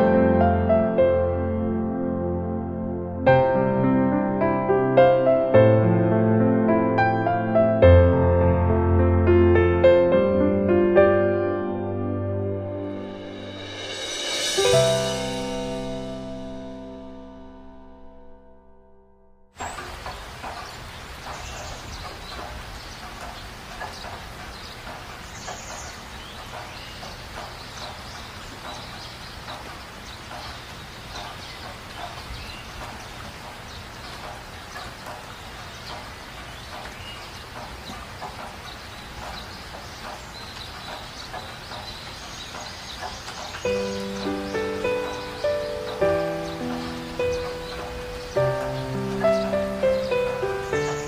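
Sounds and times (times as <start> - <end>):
steady rushing hiss: 3.2 - 17.2, 19.6 - 51.0.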